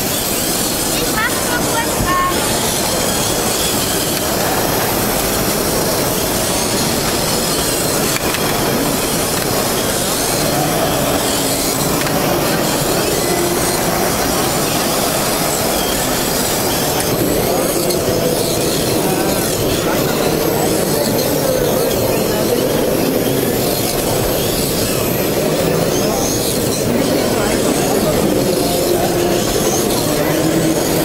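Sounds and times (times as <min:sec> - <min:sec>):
busy hall din: 0:00.0 - 0:31.0
small electric rc cars running: 0:00.0 - 0:31.0.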